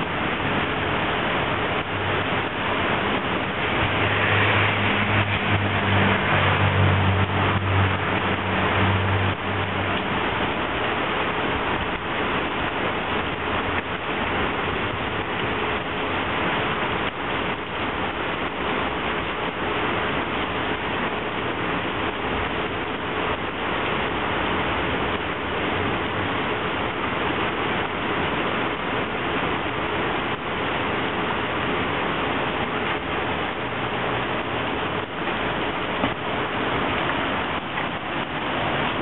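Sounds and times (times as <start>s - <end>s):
heavy rain on a wet road: 0.0s - 39.0s.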